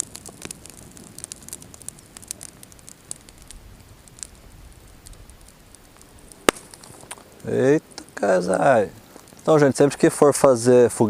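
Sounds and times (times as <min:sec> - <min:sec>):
fire pops and snaps: 0:00.0 - 0:10.5
campfire crackling: 0:00.0 - 0:11.0.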